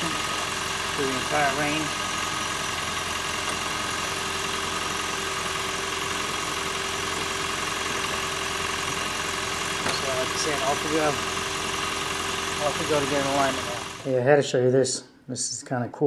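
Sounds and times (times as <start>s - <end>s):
petrol engine idling: 0.0s - 14.1s.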